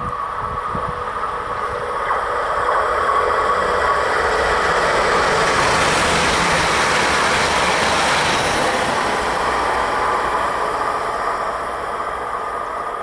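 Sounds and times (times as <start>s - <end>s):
train passing: 0.0s - 13.0s.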